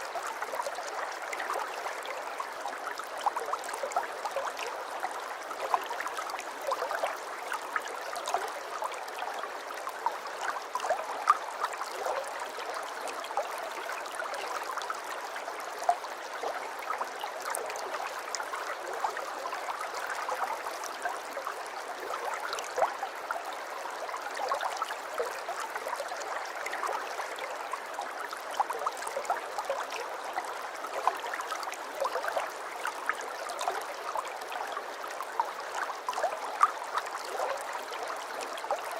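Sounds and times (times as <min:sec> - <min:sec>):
aquarium water trickling and bubbling: 0:00.0 - 0:38.9.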